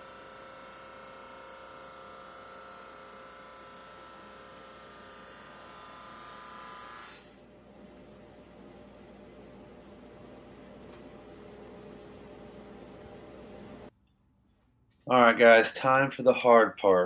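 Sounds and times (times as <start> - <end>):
drum sander whining: 0.0 - 13.9.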